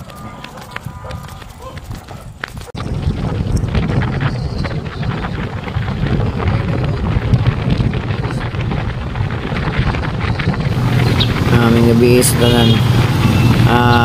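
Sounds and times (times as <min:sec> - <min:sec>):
vehicle engine and tyres rumbling: 0:00.0 - 0:14.0
wind buffeting microphone: 0:00.0 - 0:14.0.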